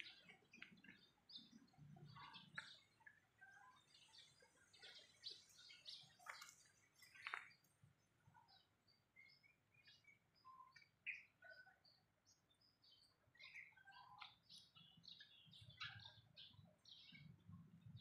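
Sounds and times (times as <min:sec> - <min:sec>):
birds chirping and whistling: 0:00.0 - 0:07.7, 0:08.5 - 0:18.0.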